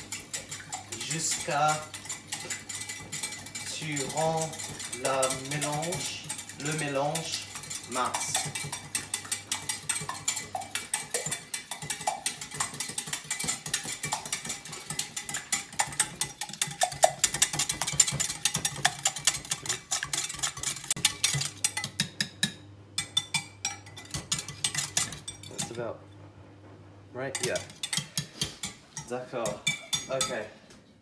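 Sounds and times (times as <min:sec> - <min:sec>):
wire whisk beating eggs in glass jug: 0:00.0 - 0:25.9, 0:27.3 - 0:30.4.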